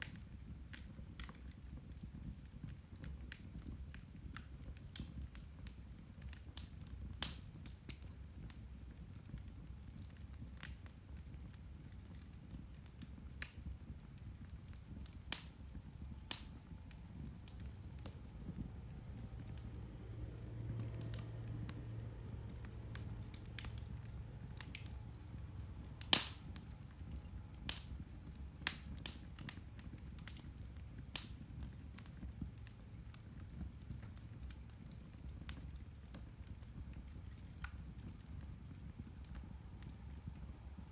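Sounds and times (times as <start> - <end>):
peat fire crackling and popping: 0.0 - 40.9.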